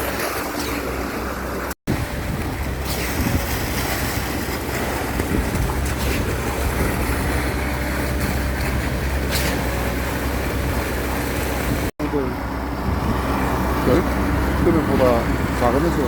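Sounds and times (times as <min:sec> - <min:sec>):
road noise: 0:00.0 - 0:16.0
rushing wind: 0:00.0 - 0:16.0
vehicle engine running: 0:00.9 - 0:16.0.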